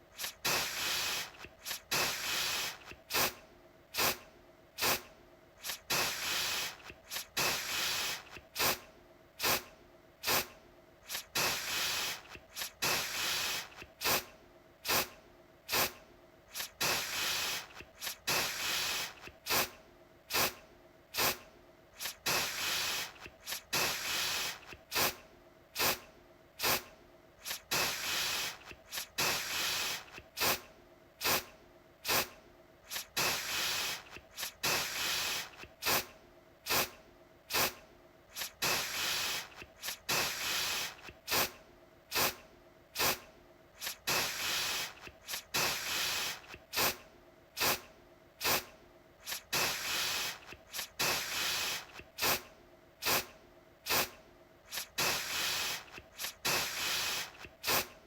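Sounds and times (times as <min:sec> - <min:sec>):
aerosol can spraying: 0:00.1 - 0:04.2, 0:04.8 - 0:08.8, 0:09.4 - 0:21.4, 0:22.0 - 0:25.2, 0:25.8 - 0:26.0, 0:26.6 - 0:42.4, 0:43.0 - 0:43.2, 0:43.8 - 0:47.0, 0:47.6 - 0:58.0.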